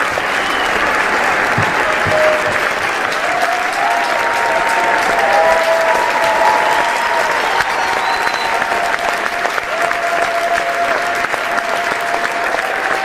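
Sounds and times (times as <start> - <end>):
audience applauding: 0.0 - 13.0
crowd cheering: 0.0 - 13.0.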